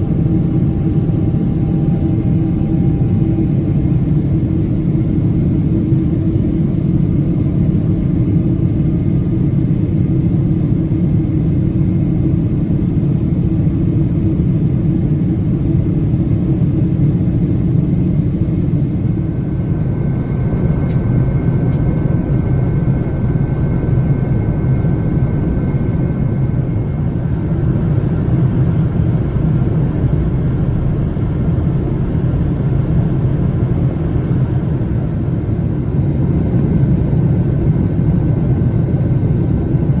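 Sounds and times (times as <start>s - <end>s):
high steady whine: 0.0s - 9.6s, 15.0s - 40.0s
jet engine drone in cabin: 0.0s - 40.0s.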